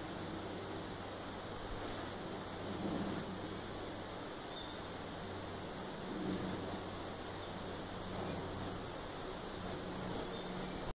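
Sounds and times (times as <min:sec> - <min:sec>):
low steady hum: 0:00.0 - 0:10.9
steady background hiss: 0:00.0 - 0:10.9.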